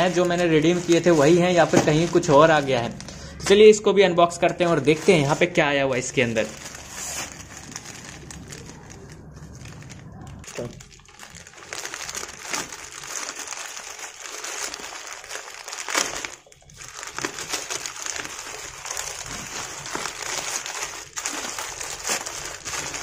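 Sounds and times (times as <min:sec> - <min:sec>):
plastic bag tearing and crinkling: 0:00.0 - 0:03.6, 0:04.4 - 0:23.0.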